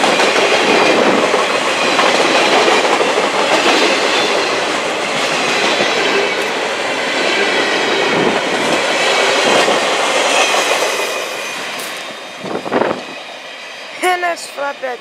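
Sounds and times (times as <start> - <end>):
train wheels rolling on rails: 0.0 - 14.9.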